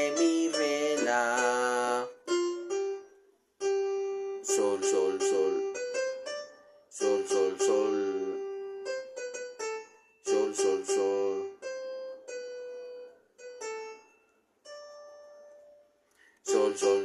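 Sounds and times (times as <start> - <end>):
piano playing slow melody: 0.0 - 15.9.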